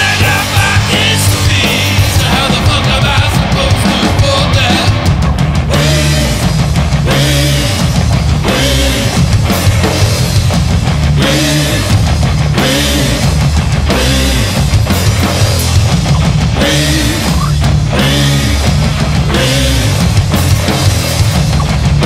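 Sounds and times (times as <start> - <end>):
drum kit beat: 0.0 - 22.0
heavy rock band playing: 0.0 - 22.0.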